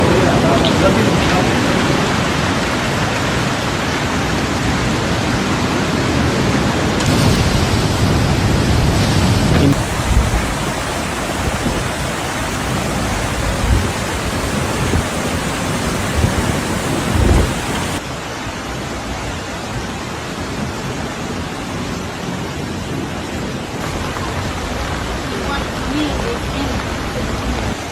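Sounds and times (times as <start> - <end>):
heavy rainstorm rushing: 0.0 - 27.9.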